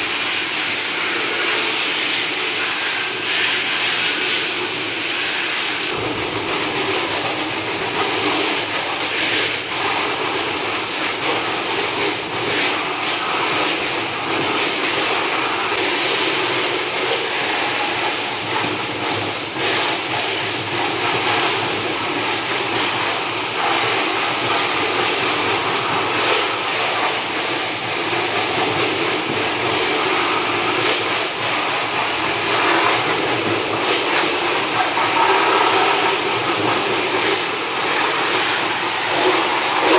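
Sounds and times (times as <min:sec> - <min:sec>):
high-pressure water spray hissing: 0:00.0 - 0:39.9.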